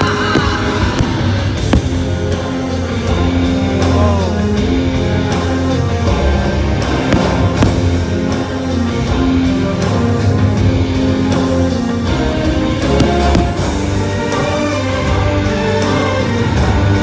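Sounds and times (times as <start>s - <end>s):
fireworks bursts: 0.0s - 10.2s, 11.2s - 16.4s
loud music with sustained bass: 0.0s - 17.0s.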